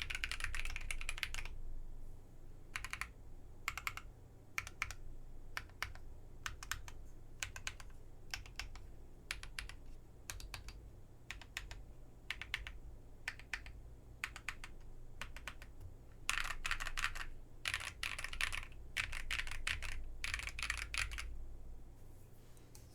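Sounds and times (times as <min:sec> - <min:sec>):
mechanical keyboard typing: 0:00.0 - 0:01.6, 0:02.8 - 0:03.1, 0:03.7 - 0:05.0, 0:05.6 - 0:21.3.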